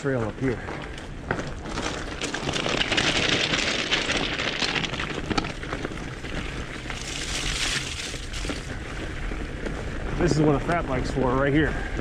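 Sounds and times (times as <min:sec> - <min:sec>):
bike tyres crunching gravel and snow: 0:00.0 - 0:12.0.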